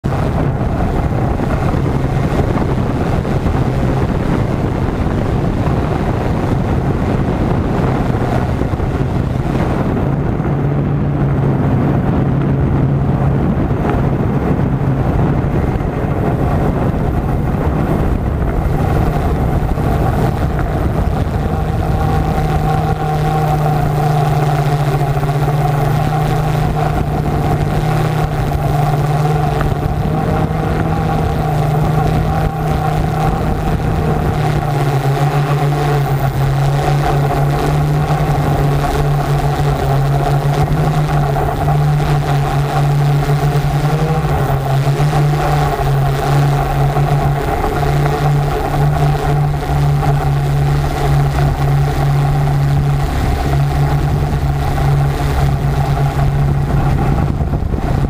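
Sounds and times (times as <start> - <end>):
drone propellers humming: 0.0 - 58.0.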